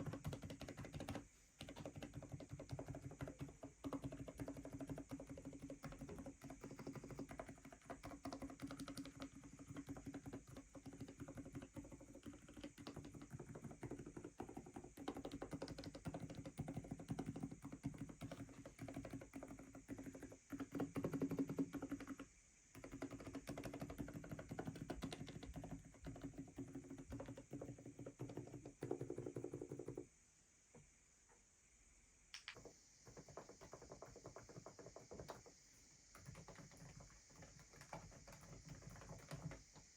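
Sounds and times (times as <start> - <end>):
fast typing on keyboard: 0.0 - 30.0, 36.1 - 39.9.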